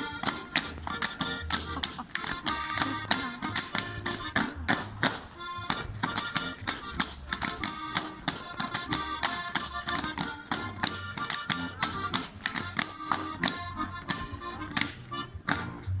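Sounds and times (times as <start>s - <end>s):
button accordion folk tune: 0.0s - 16.0s
dancers slapping thighs and stamping: 0.0s - 16.0s.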